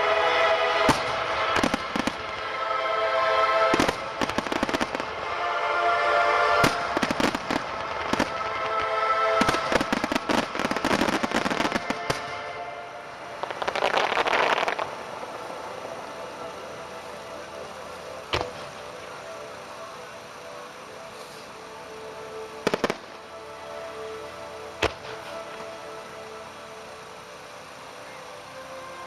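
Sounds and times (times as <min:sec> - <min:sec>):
dense hiss: 0:00.0 - 0:29.0
fireworks bursting and crackling: 0:00.0 - 0:29.0
music playing: 0:00.0 - 0:29.0.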